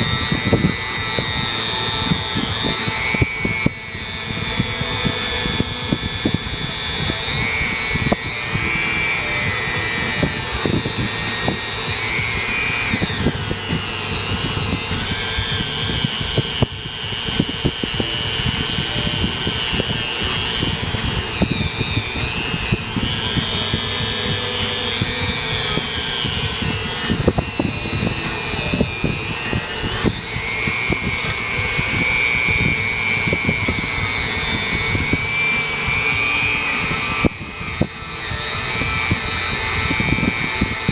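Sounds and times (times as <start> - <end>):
rotary tool whining: 0.0 - 40.9.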